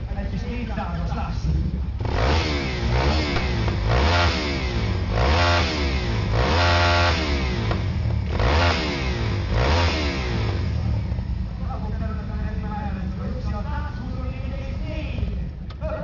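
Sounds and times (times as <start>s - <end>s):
motorcycle engine revving: 1.3s - 15.6s.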